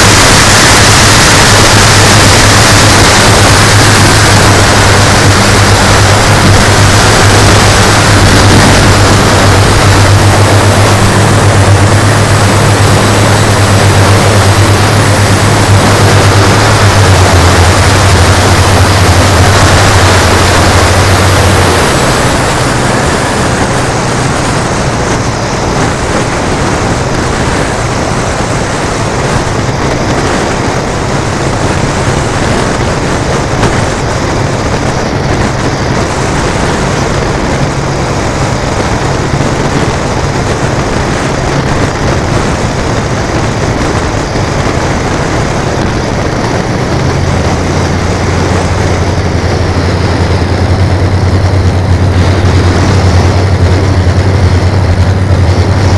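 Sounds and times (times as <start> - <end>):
model aircraft propeller drone: 0.0 - 55.9.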